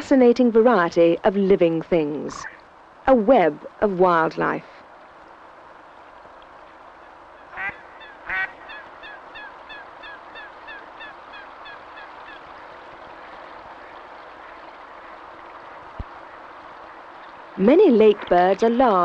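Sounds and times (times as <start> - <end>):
waterbirds calling: 0.0 - 19.0.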